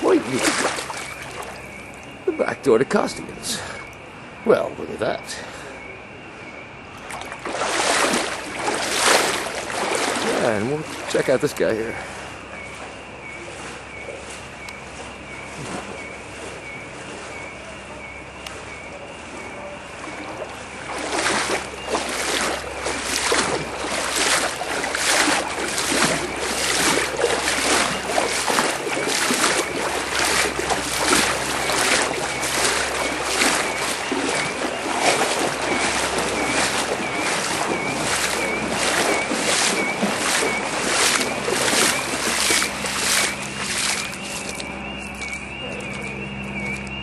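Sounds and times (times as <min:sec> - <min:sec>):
splashing through floodwater: 0:00.0 - 0:06.2, 0:06.8 - 0:47.0
faint high chirp: 0:00.0 - 0:47.0.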